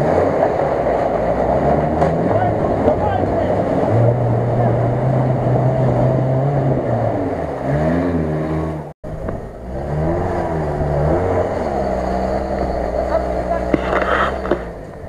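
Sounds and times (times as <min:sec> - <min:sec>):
off-road engines revving: 0:00.0 - 0:15.0.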